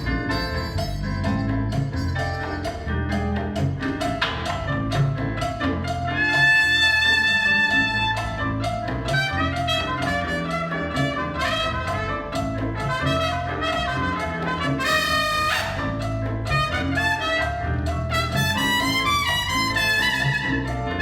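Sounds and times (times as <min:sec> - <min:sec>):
trumpet playing: 0:00.0 - 0:02.9, 0:05.8 - 0:21.0
hand percussion: 0:00.0 - 0:21.0
piano: 0:00.0 - 0:21.0
walking bass: 0:00.0 - 0:21.0.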